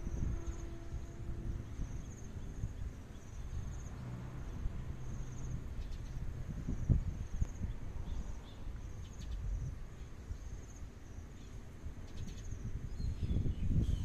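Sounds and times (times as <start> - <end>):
insects chirping in trills: 0.0 - 14.0
steady low rumble: 0.0 - 14.0.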